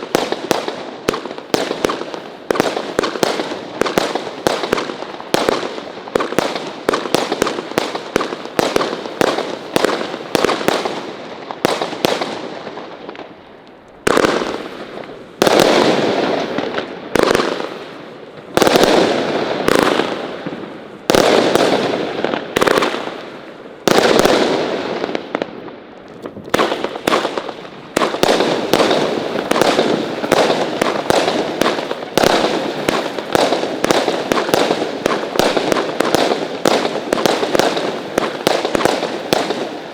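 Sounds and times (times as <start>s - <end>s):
firework booms with echo: 0.0s - 13.4s, 14.0s - 39.9s
firework bangs: 0.0s - 39.9s.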